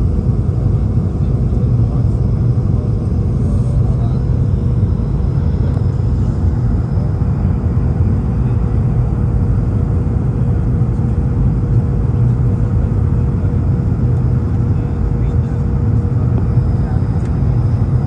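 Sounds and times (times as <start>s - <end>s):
airliner cabin low rumble: 0.0s - 18.0s
faint steady hum: 0.0s - 18.0s.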